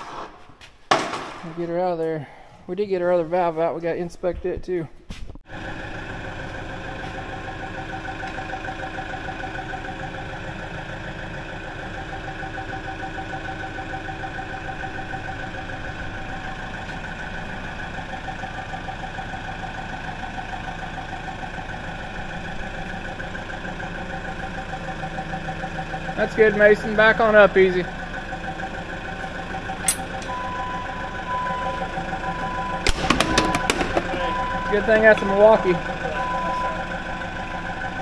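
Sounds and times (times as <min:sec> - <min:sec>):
forklift engine idling: 0:05.5 - 0:38.0.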